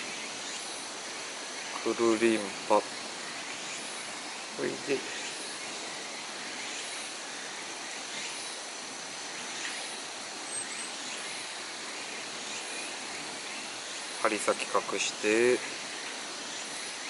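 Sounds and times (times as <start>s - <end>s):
outdoor ambient hiss: 0.0s - 17.0s.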